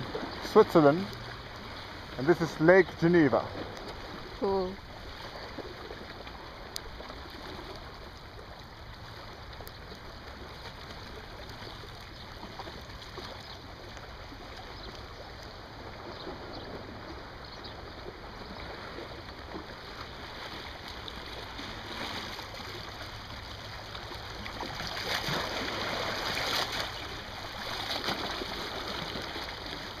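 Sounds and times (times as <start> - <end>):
choppy lake water: 0.0 - 30.0.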